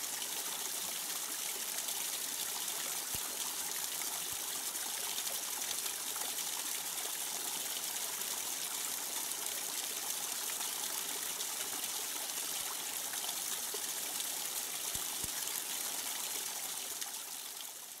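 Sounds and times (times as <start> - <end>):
water trickling and splashing: 0.0 - 18.0.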